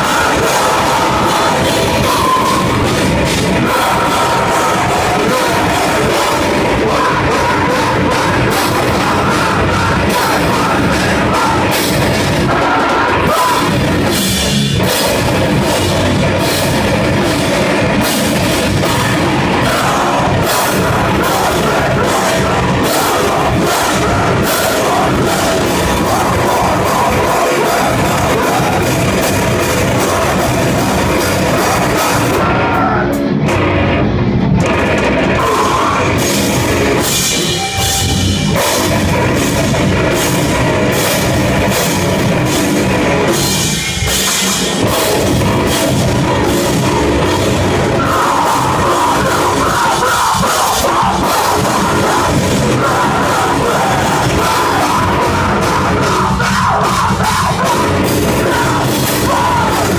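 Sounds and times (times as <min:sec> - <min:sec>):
drum kit with cymbals: 0:00.0 - 0:33.7, 0:34.6 - 0:59.9
distorted electric guitars: 0:00.0 - 0:59.9.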